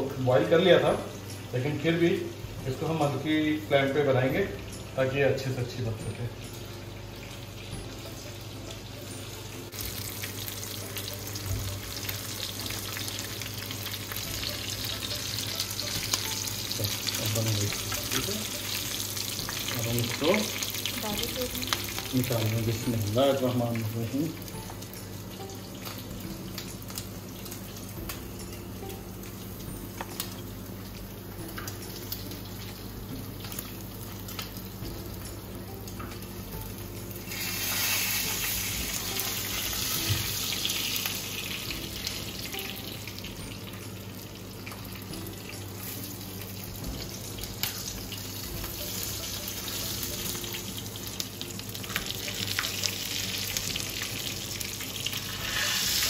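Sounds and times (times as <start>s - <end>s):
oil sizzling as meat fries: 0.0s - 56.0s.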